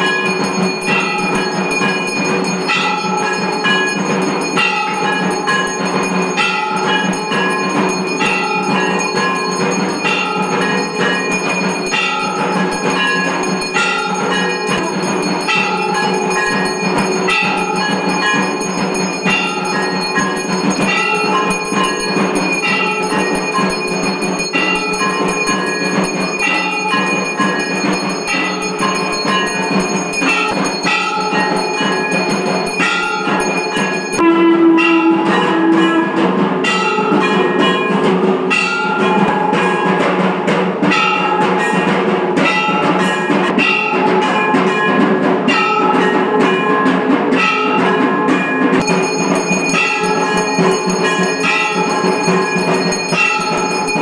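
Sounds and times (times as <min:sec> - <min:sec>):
brass hand bell ringing: 0:00.0 - 0:54.0
loud held bell tone: 0:00.0 - 0:54.0
temple bells clanging: 0:00.0 - 0:54.0.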